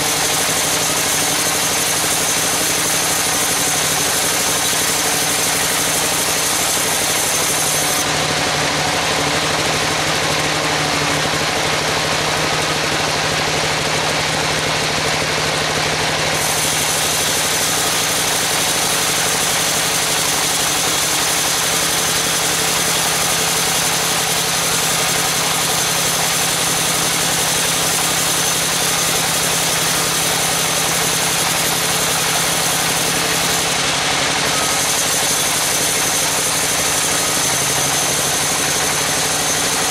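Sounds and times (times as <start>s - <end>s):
bandsaw blade whirring through log: 0.0s - 39.9s.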